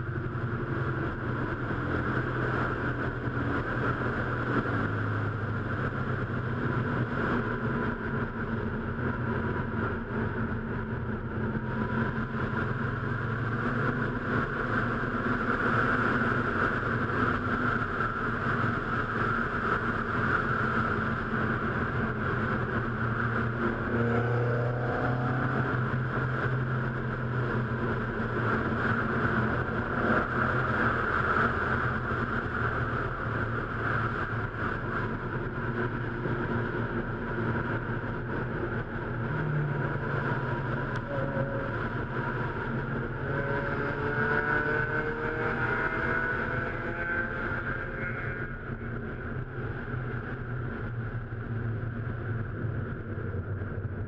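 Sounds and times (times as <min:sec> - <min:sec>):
car engine: 0:00.0 - 0:54.0
road and wind noise: 0:00.0 - 0:54.0.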